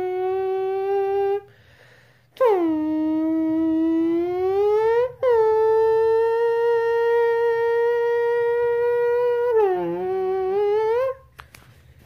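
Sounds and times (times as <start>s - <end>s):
person imitating car engine: 0.0s - 1.5s, 2.4s - 11.3s.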